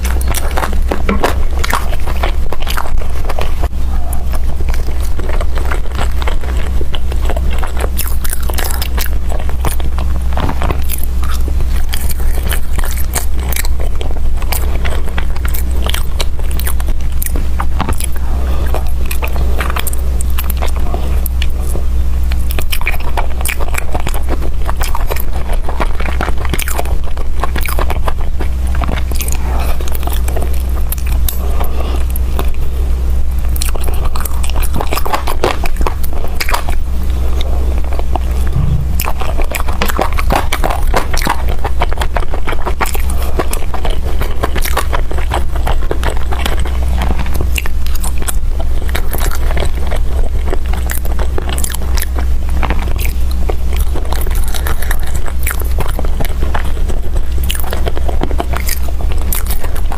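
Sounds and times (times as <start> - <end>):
low hum: 0.0 - 59.9
person chewing food: 0.0 - 59.9.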